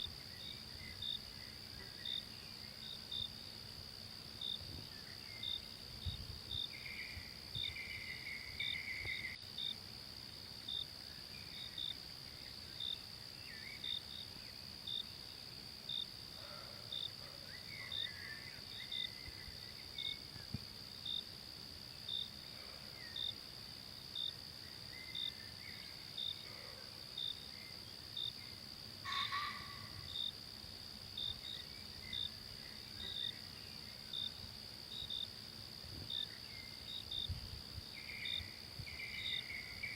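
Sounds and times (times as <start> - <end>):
cricket-like chirp: 0.0 - 39.9
insects droning: 0.0 - 39.9.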